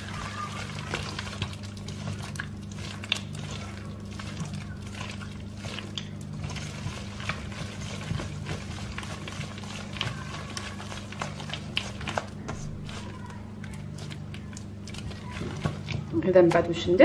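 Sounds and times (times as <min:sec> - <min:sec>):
wet stirring in bowl: 0:00.0 - 0:17.0.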